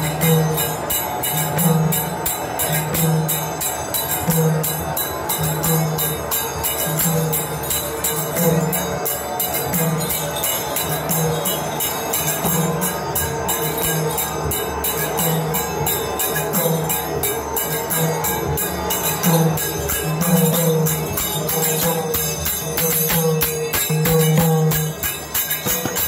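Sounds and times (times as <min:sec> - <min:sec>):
jingling percussion: 0:00.0 - 0:26.0.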